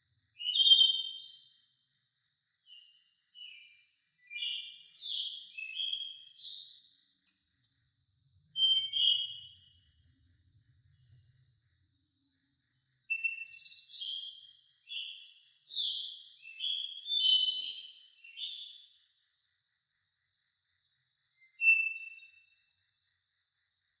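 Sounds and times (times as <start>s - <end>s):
insects trilling: 0.2s - 24.0s.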